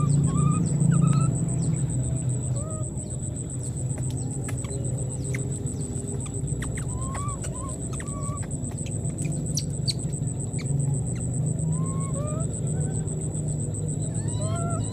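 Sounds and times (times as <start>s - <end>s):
faint rising chirp-like calls: 0.0s - 14.9s
low hum: 0.0s - 14.9s.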